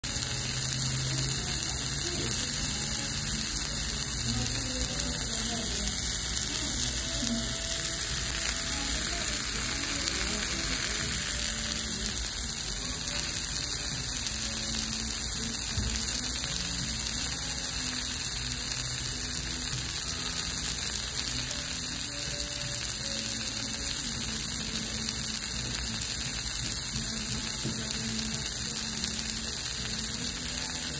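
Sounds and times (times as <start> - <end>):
food sizzling on hot skillet: 0.0 - 30.9.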